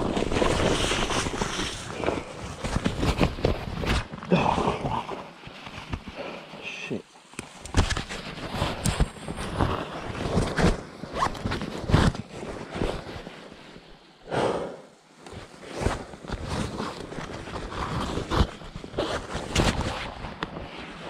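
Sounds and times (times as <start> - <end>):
fabric rustling on microphone: 0.0 - 21.0.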